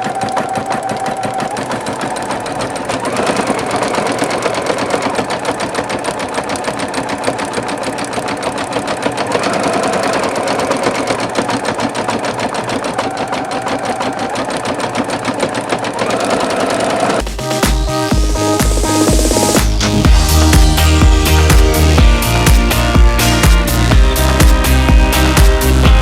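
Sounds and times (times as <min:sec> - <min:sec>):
sewing machine stitching: 0:00.0 - 0:26.0.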